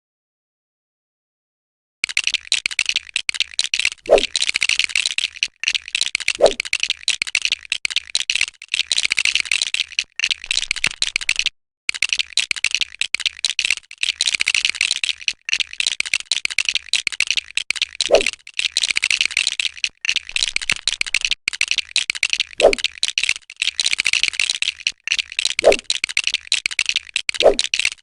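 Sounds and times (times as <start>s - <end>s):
plastic bricks rattling and clicking: 2.0s - 28.0s.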